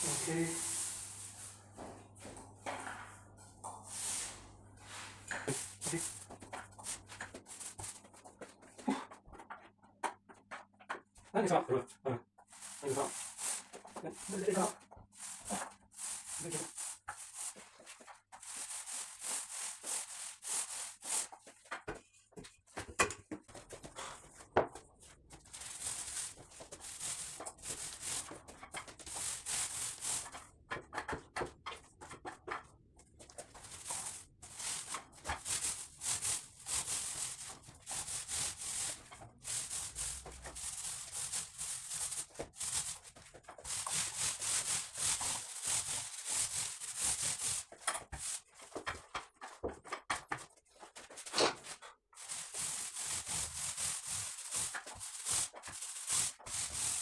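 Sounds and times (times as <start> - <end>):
paint roller on wall: 0.0 - 11.3, 12.4 - 57.0.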